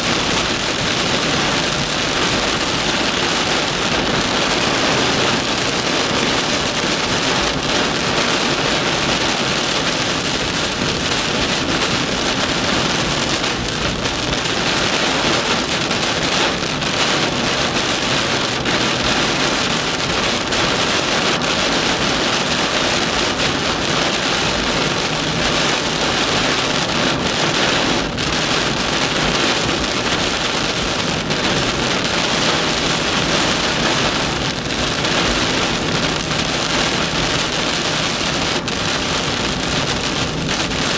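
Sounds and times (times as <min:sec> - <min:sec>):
heavy rain on a car: 0:00.0 - 0:40.9.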